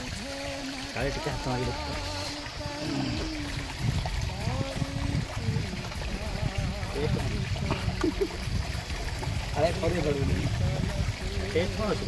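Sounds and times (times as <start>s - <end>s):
stream water over rocks: 0.0s - 12.0s.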